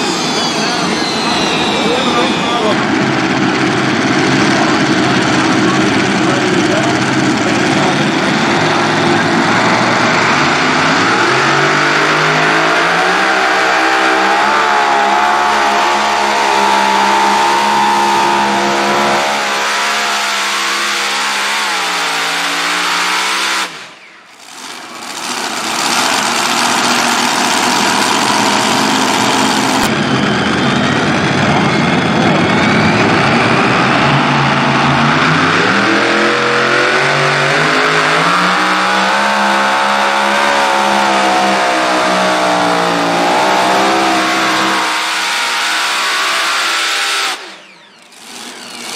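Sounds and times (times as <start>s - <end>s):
tractor engines at full throttle: 0.0s - 48.9s.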